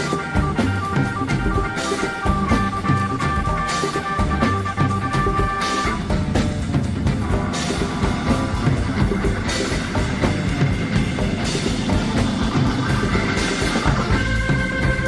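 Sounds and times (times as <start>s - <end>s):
background music with drums: 0.0s - 15.0s.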